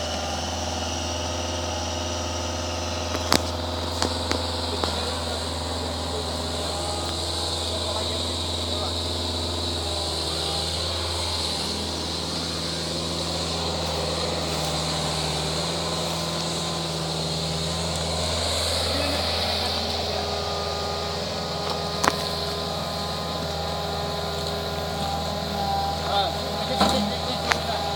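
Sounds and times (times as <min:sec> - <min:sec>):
engine humming steadily: 0:00.0 - 0:27.9.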